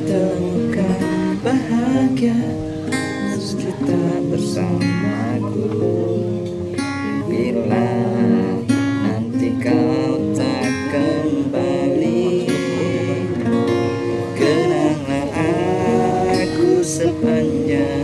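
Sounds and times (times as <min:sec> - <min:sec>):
acoustic guitar strumming chords: 0:00.0 - 0:18.0
man singing: 0:00.0 - 0:18.0.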